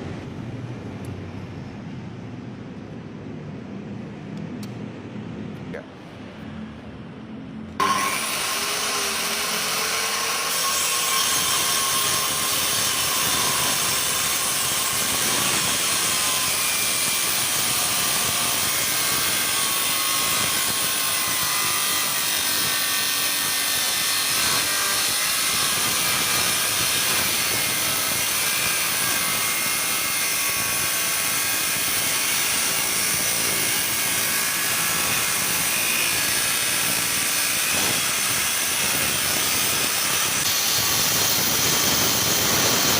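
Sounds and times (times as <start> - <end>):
power tool running on wood: 7.8 - 42.9.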